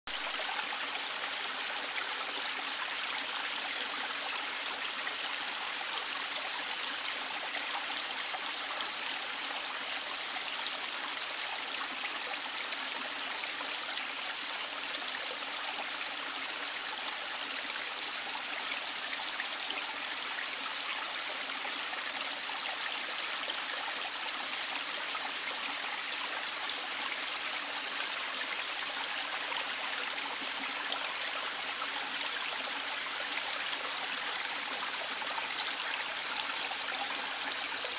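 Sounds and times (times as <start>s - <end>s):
stream flowing: 0.1s - 37.9s.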